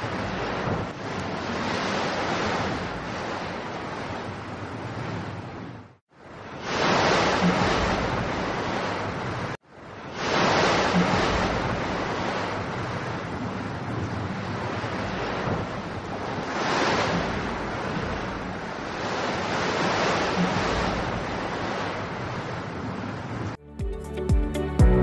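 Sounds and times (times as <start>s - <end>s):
rushing storm wind: 0.0s - 23.6s.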